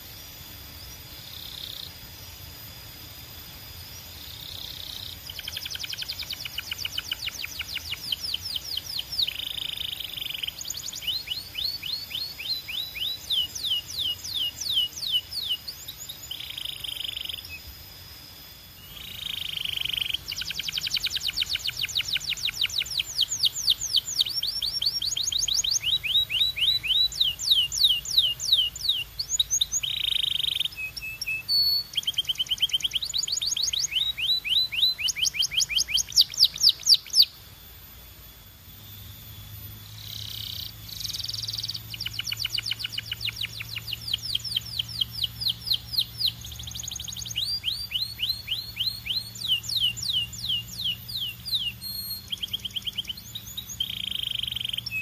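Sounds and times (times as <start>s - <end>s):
canary singing trills: 0.0s - 2.2s, 3.6s - 18.0s, 18.7s - 37.4s, 38.8s - 55.0s.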